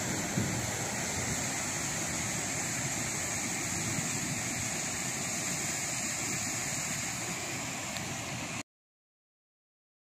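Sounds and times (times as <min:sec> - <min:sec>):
stream flowing over stones: 0:00.0 - 0:08.6.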